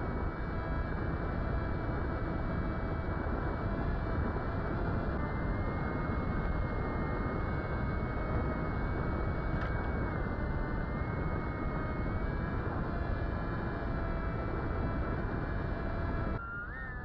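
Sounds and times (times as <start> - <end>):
electric motor and propeller whining: 0.0 - 17.0
wind rushing across microphone: 0.0 - 17.0.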